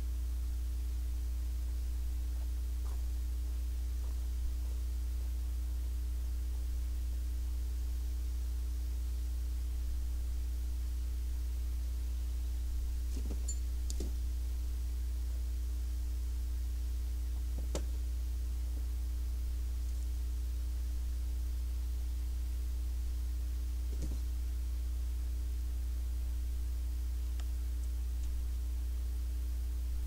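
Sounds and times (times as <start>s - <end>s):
faint high steady tone: 0.0s - 26.7s
steady low hum: 0.0s - 30.0s.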